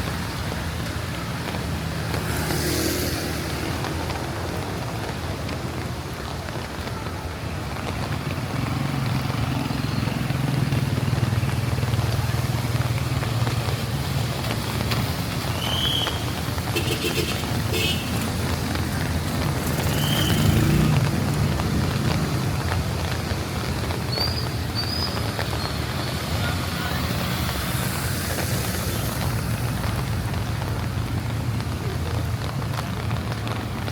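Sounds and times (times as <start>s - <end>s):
rain hiss: 0.0s - 33.9s
vehicles passing on wet road: 0.0s - 33.9s.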